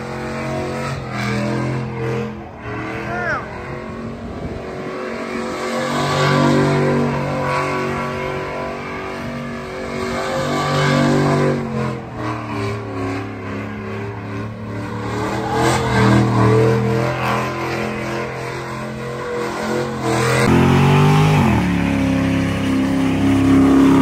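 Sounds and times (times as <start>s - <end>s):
tires spinning: 0.0s - 24.0s
truck engine revving hard: 0.0s - 24.0s.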